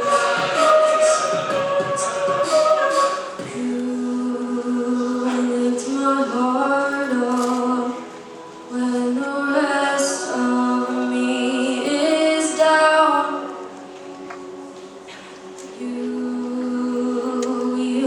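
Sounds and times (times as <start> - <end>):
a cappella group singing: 0.0 - 18.0.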